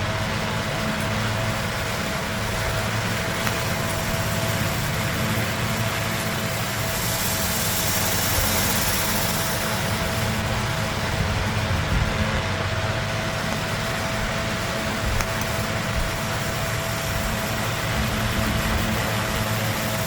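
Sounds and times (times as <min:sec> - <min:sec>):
machine hum: 0:00.0 - 0:20.0
bright hiss: 0:00.5 - 0:12.2, 0:12.8 - 0:20.0.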